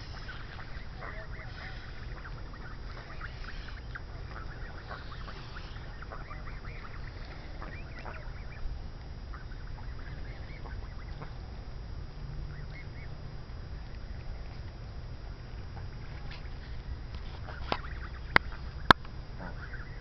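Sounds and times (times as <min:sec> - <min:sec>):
geese calling: 0:00.0 - 0:11.7, 0:12.3 - 0:14.7, 0:15.8 - 0:20.0
low rumble: 0:00.0 - 0:20.0.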